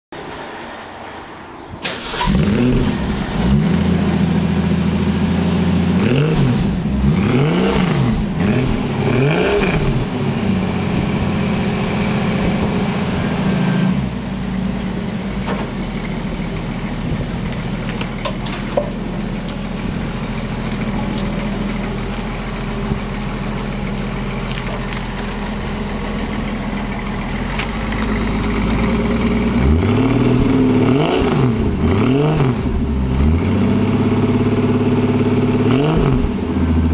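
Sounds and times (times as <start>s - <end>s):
car engine idling: 1.8s - 36.9s
car engine revving: 1.9s - 36.9s.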